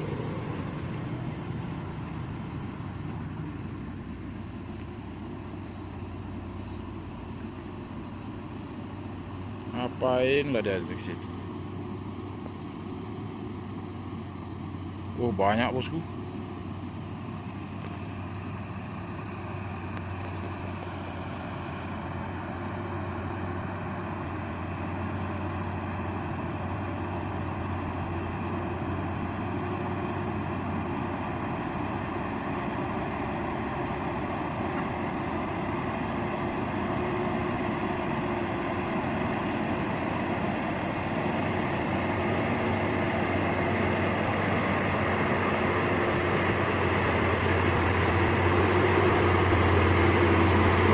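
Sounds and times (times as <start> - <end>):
diesel truck engine humming: 0.0 - 50.9.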